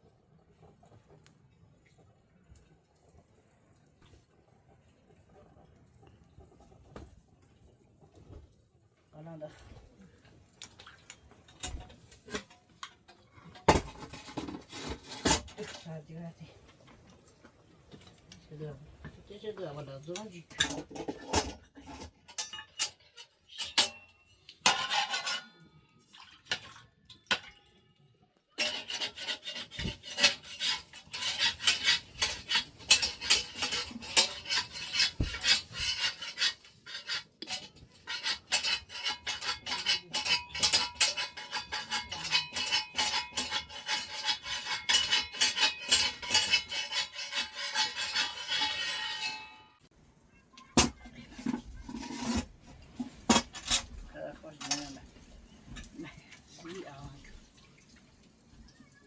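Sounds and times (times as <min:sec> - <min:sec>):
metal utensils and pots clinking: 0:09.2 - 0:27.9, 0:28.5 - 0:59.0.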